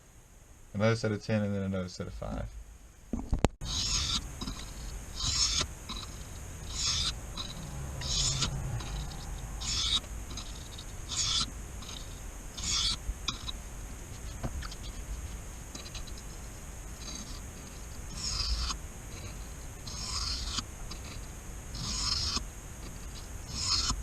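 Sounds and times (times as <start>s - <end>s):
knife scraping on whetstone: 3.6s - 21.2s, 21.8s - 24.0s.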